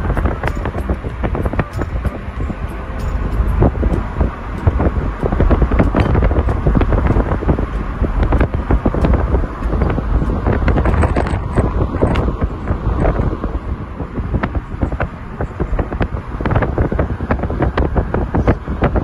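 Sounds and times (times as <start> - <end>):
road and engine rumble: 0.0 - 19.0
wind buffeting microphone: 0.0 - 19.0.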